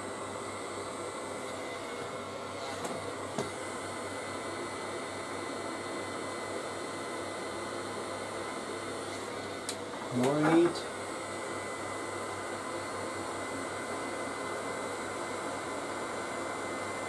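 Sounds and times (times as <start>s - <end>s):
heat gun blowing with low hum: 0.0s - 17.0s.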